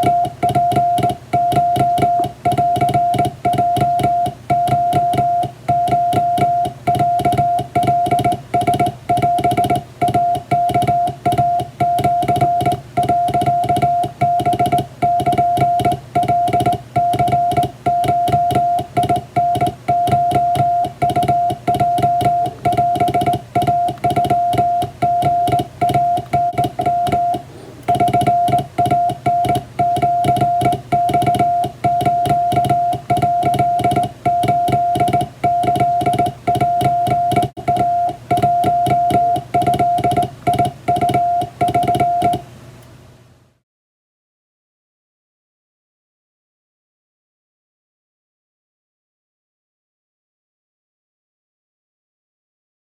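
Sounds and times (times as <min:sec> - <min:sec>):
morse code tone: 0:00.0 - 0:42.4.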